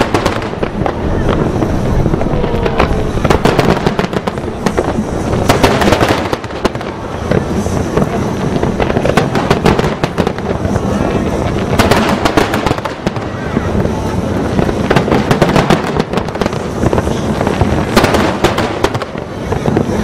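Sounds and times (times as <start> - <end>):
continuous low rumble: 0.0 - 20.0
firework shell bursts and crackling: 0.0 - 20.0
sharp firework bangs: 0.0 - 20.0.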